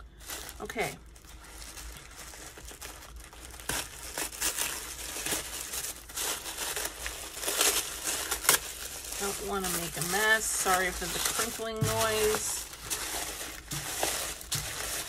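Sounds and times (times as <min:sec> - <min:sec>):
tissue paper crinkling: 0:00.0 - 0:15.0.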